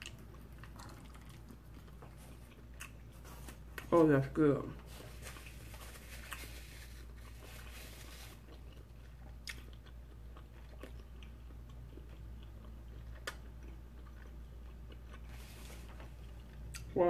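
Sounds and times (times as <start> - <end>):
person chewing: 0.0 - 3.9, 4.8 - 17.0.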